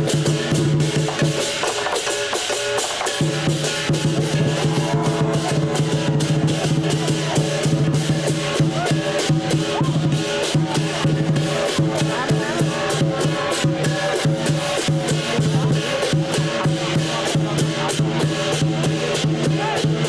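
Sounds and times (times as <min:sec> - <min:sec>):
drum gongs and cymbals playing: 0:00.0 - 0:20.0.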